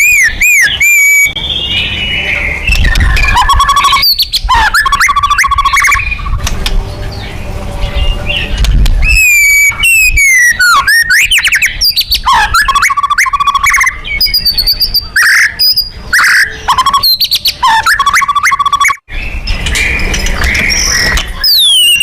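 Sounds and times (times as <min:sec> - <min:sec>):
bird singing whistles and trills: 0:00.0 - 0:06.5, 0:07.1 - 0:22.0.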